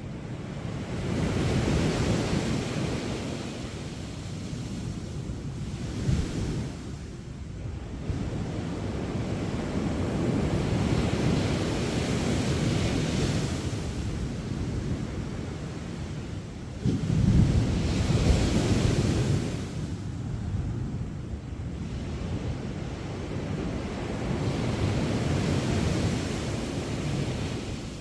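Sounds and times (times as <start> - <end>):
sea surf washing ashore: 0.0 - 20.2, 21.3 - 28.0.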